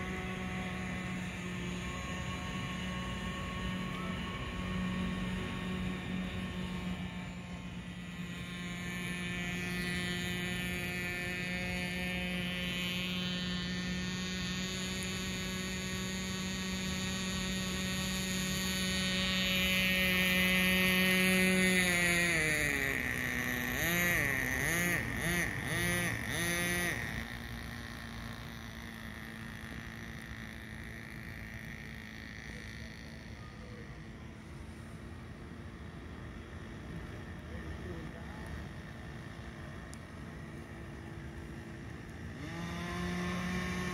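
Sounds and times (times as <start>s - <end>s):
model boat engine whining: 0.0s - 43.9s.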